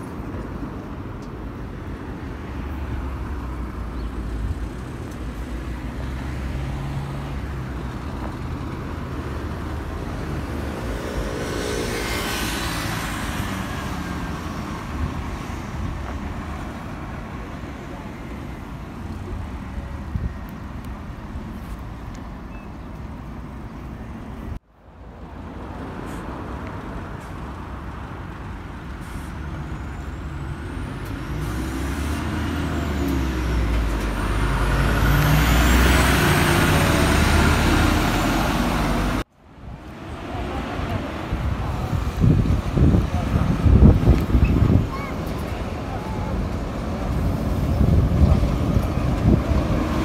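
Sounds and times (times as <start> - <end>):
diesel buses passing: 0.0 - 50.0.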